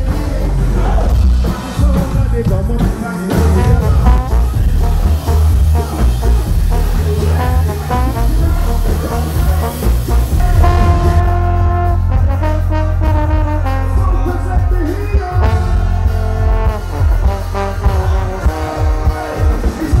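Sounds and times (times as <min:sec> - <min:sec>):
live band with bass and drums: 0:00.0 - 0:20.0
trombone playing: 0:03.3 - 0:20.0.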